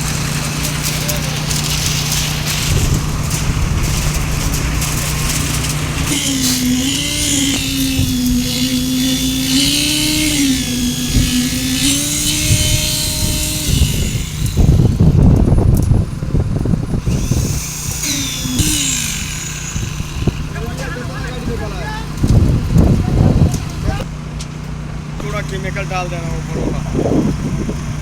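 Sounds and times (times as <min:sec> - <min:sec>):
loud rough machinery noise: 0:00.0 - 0:28.0
motor whine: 0:00.0 - 0:28.0.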